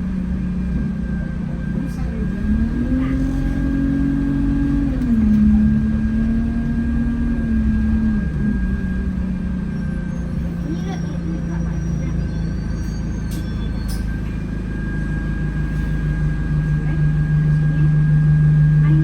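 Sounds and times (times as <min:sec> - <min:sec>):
bus engine: 0:00.0 - 0:19.0.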